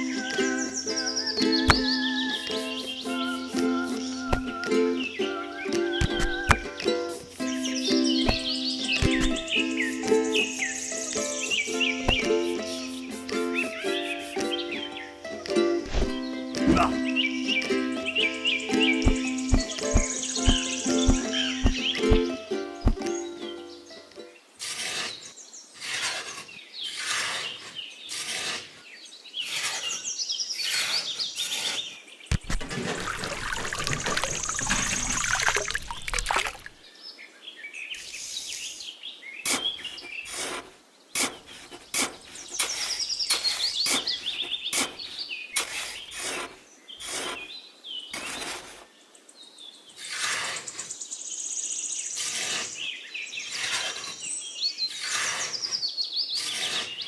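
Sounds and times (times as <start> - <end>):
birds chirping: 0.0 - 40.4, 41.0 - 57.0.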